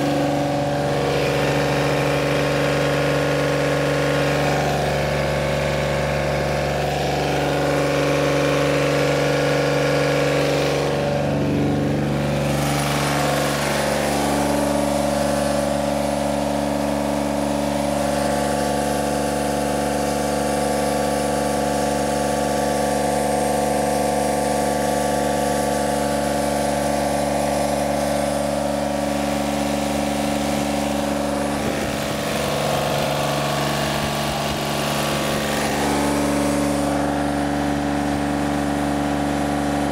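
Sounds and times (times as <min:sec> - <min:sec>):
diesel mower engine running: 0:00.0 - 0:39.9.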